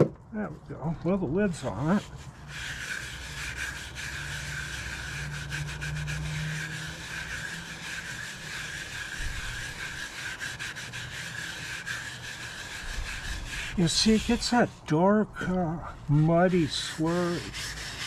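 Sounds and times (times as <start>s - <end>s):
wire brush scrubbing metal: 0.7s - 18.0s.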